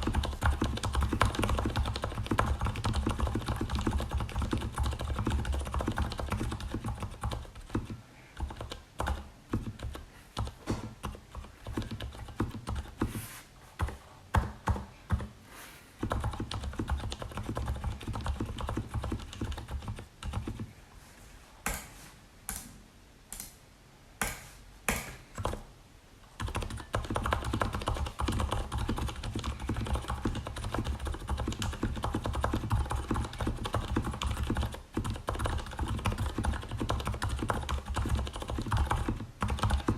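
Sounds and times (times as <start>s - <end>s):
muted keyboard typing: 0.0s - 13.1s, 13.8s - 15.3s, 16.0s - 20.7s, 25.4s - 25.7s, 26.4s - 39.9s.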